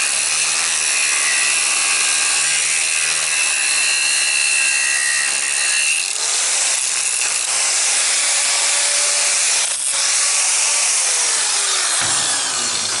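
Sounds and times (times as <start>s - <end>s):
angle grinder cutting steel: 0.0s - 13.0s.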